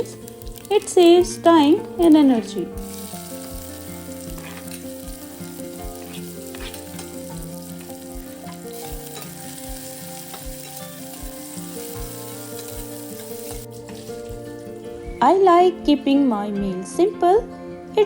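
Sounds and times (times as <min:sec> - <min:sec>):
paste sizzling in a pan: 0:00.0 - 0:15.0
soft background music: 0:00.0 - 0:18.0.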